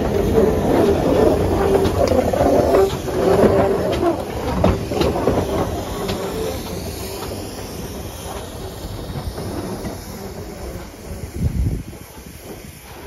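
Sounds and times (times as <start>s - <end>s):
steam locomotive hissing: 0.0s - 13.0s
wheels clicking over rail joints: 0.0s - 13.0s.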